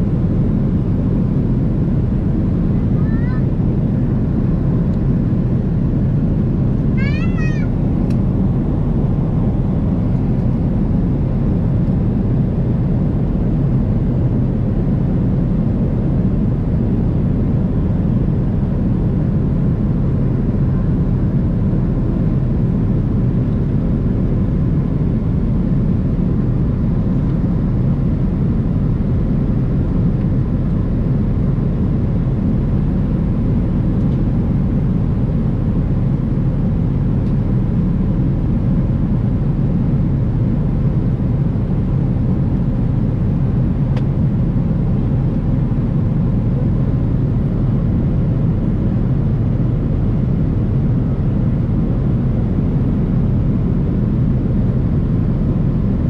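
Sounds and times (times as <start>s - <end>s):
airplane cabin engine roar: 0.0s - 56.0s.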